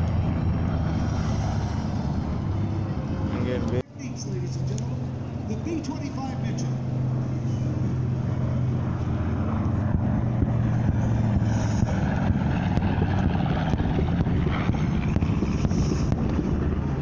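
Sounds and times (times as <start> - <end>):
propeller aircraft engines in flight: 0.0 - 17.0.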